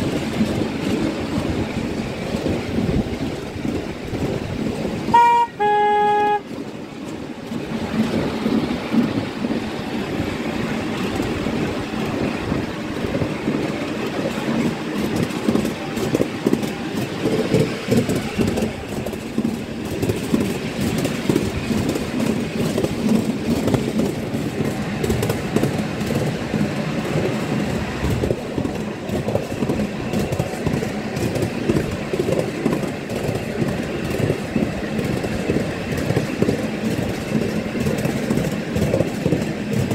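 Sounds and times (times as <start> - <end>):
miniature train rumbling: 0.0 - 39.9
wheels clicking on rails: 0.0 - 39.9.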